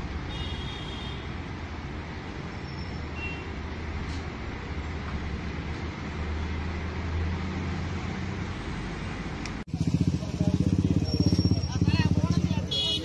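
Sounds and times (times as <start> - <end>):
vehicles driving past: 0.0 - 13.0.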